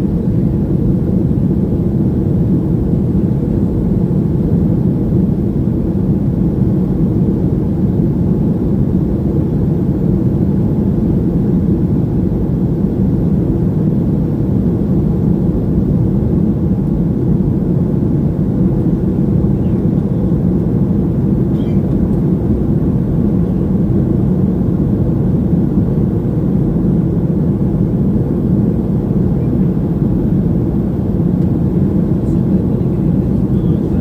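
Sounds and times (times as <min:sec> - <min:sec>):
jet airliner cabin rumble: 0:00.0 - 0:34.0.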